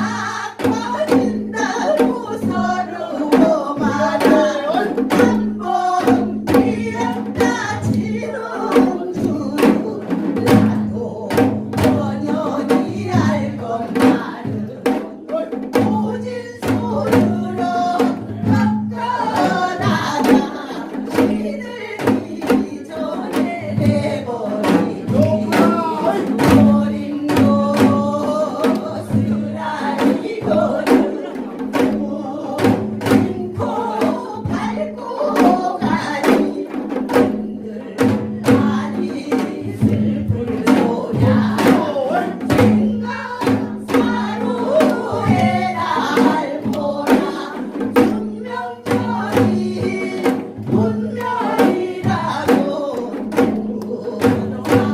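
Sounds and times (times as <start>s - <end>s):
drum strikes: 0.0s - 54.9s
group singing: 0.0s - 54.9s.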